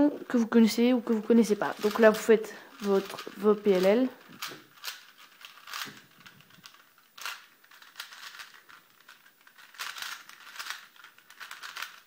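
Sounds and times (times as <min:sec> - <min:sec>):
puzzle cube clicking: 0:01.3 - 0:12.0.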